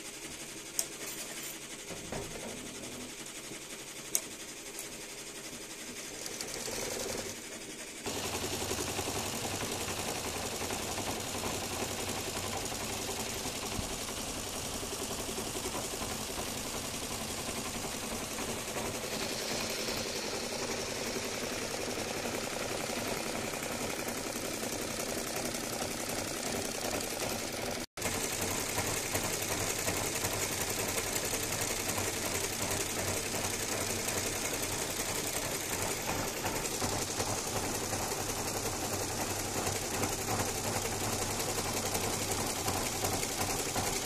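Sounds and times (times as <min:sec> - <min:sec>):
embroidery machine stitching: 0:00.2 - 0:44.0.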